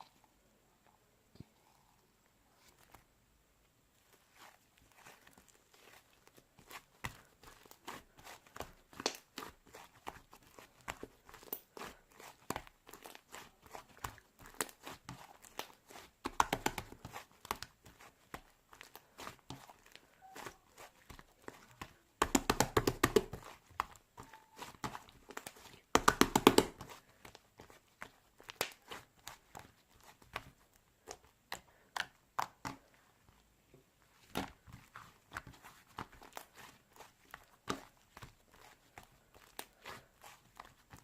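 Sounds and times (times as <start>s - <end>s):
slime crackling: 4.0s - 41.0s
slime squished by hands: 4.0s - 41.0s.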